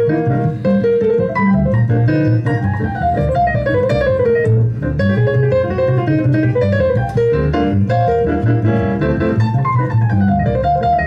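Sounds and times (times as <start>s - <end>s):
piano: 0.0s - 11.0s
steady bass line: 0.0s - 11.0s.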